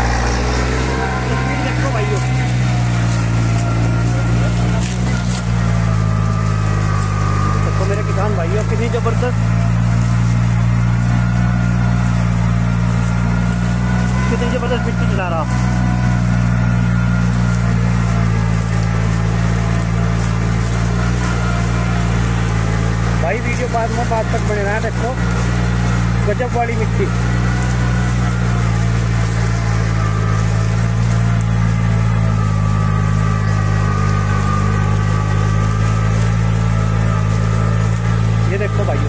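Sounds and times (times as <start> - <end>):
discs scraping through soil: 0.0 - 39.0
tractor diesel engine under load: 0.0 - 39.0.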